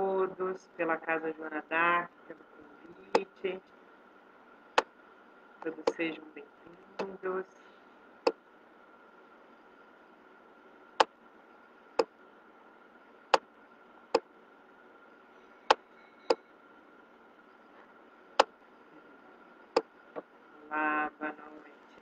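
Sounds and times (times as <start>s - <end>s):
faint high hum: 0.0s - 22.0s.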